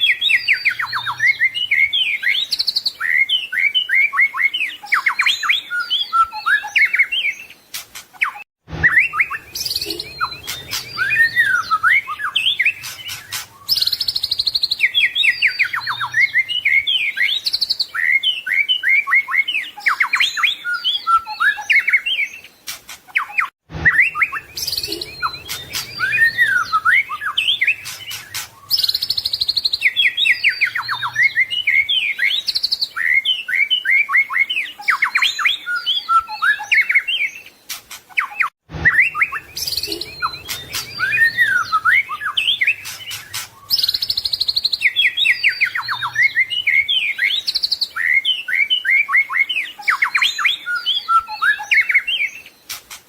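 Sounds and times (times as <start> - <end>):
songbird whistles and trills: 0.0 - 53.0.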